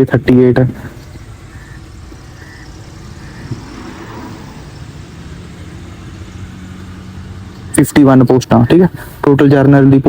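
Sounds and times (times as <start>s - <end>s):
faint low hum: 0.0s - 9.7s
low rumble with hiss: 0.0s - 10.0s.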